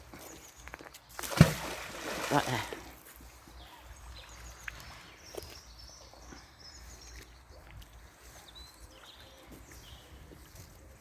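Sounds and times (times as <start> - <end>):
faint birdsong chirps: 0.0 - 1.3, 3.2 - 11.0.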